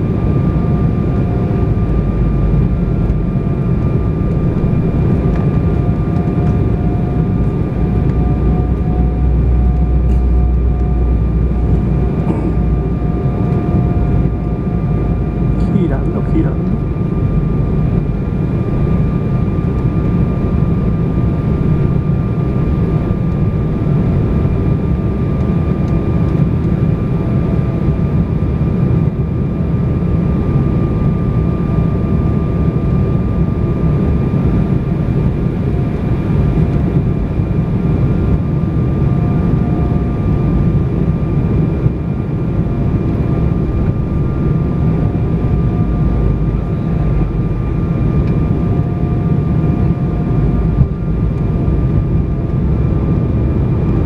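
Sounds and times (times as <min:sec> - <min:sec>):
jet engines and airflow rumble: 0:00.0 - 0:54.0
steady high whine: 0:00.0 - 0:54.0.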